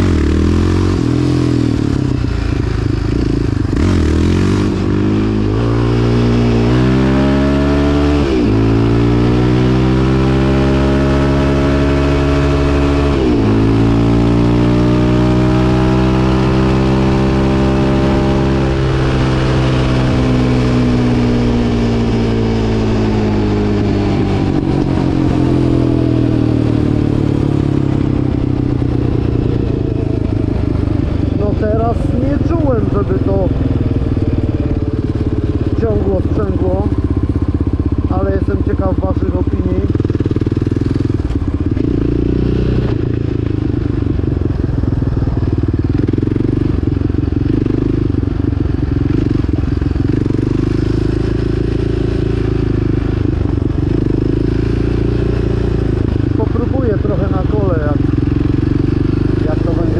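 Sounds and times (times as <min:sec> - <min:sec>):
quad bike engine accelerating: 0:00.0 - 0:59.9.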